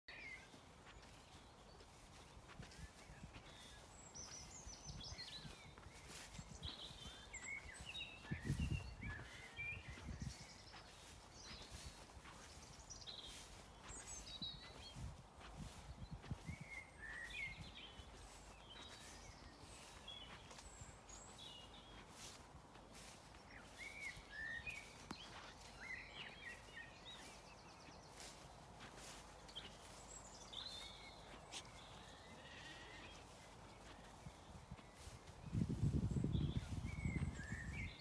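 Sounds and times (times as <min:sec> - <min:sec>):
footsteps in long grass: 0:00.1 - 0:38.0
small birds chirping: 0:00.1 - 0:38.0.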